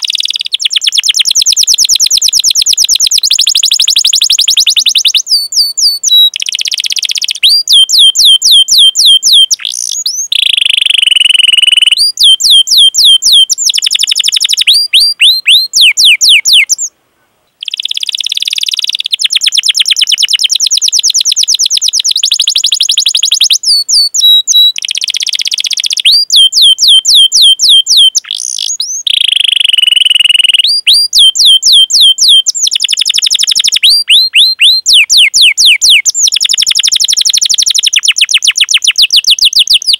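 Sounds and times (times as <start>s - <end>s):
canary singing: 0.0s - 16.9s, 17.6s - 39.9s.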